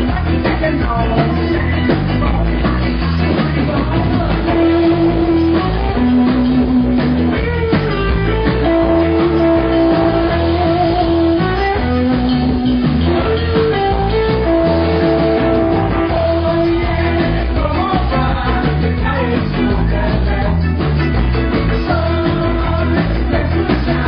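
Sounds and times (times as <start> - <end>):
electric guitar: 0.0 - 24.0
rock band playing: 0.0 - 24.0.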